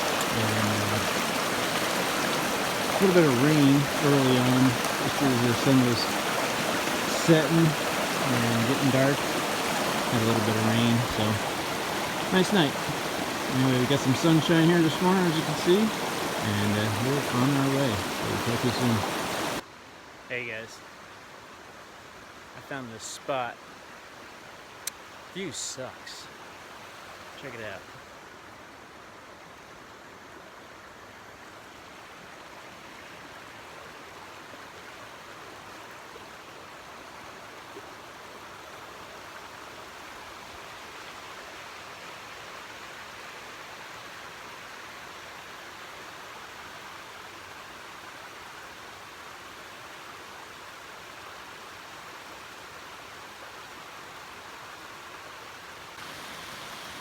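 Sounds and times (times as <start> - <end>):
small waterfalls rushing: 0.0 - 57.0.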